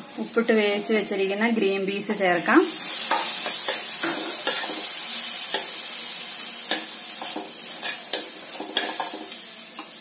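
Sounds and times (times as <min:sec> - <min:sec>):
masala sizzling in oil: 0:00.0 - 0:10.0.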